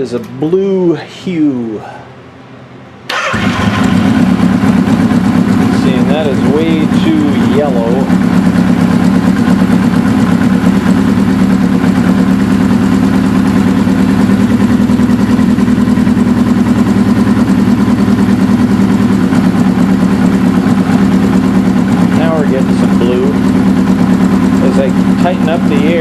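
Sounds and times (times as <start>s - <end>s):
motorcycle engine idling: 3.3s - 26.0s.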